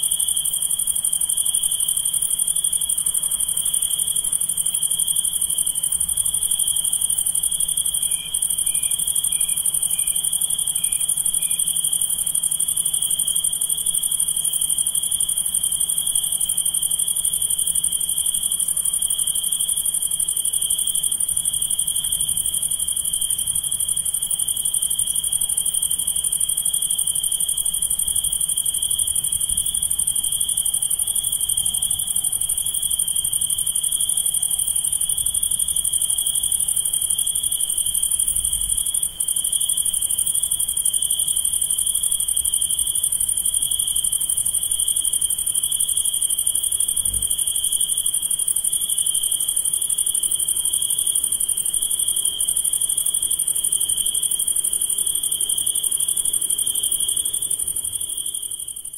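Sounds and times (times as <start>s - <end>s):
crickets trilling: 0.0s - 58.9s.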